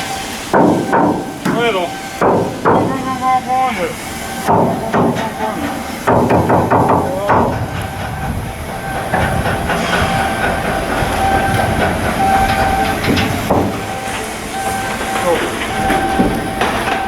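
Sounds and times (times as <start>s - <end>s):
machinery whining: 0.0s - 17.0s
metal clanks and knocks: 0.0s - 17.0s.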